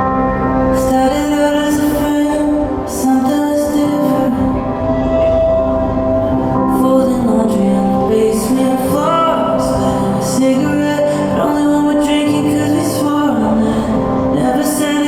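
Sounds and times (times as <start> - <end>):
slow song with sustained chords: 0.0 - 15.0.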